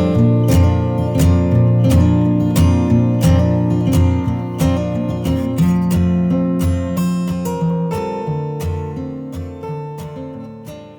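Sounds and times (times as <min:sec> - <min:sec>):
acoustic guitar strumming chords: 0:00.0 - 0:10.9.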